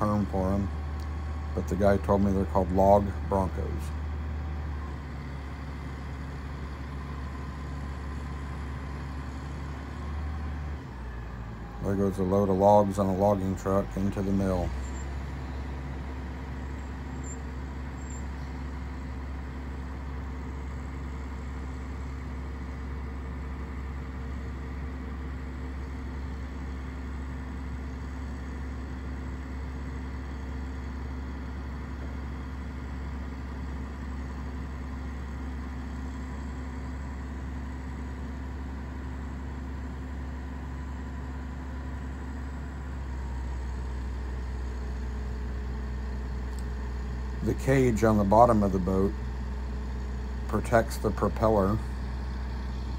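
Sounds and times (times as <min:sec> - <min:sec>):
crane diesel engine droning: 0:00.0 - 0:52.9.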